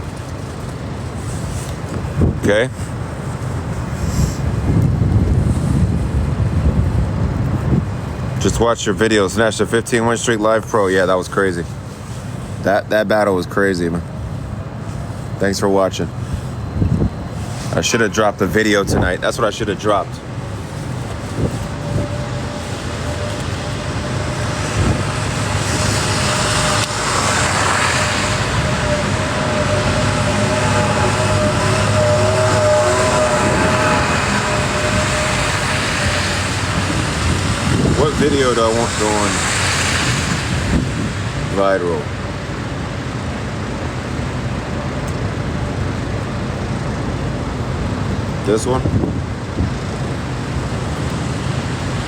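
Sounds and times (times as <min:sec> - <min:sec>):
city street traffic: 0:00.0 - 0:52.0
low rumble of passing vehicles: 0:00.0 - 0:52.0.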